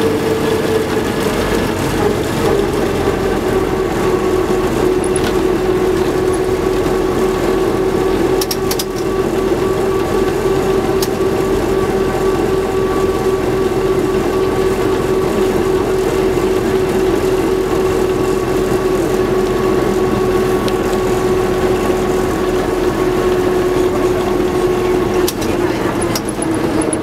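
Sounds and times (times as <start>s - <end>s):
bus engine rumble: 0.0s - 27.0s
steady whine: 0.0s - 27.0s.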